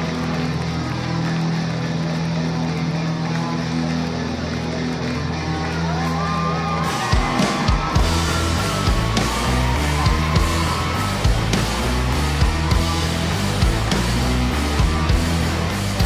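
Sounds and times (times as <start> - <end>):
drums: 0.0 - 16.0
rock band playing: 0.0 - 16.0.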